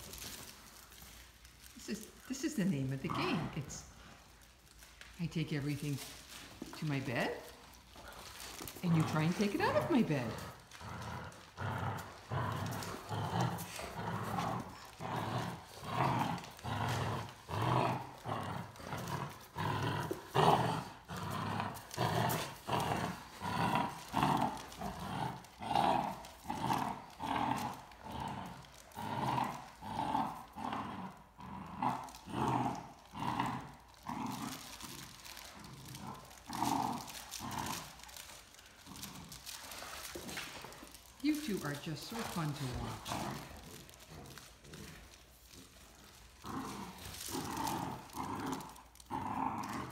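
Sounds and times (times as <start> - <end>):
puppy growling: 0.0 - 49.9.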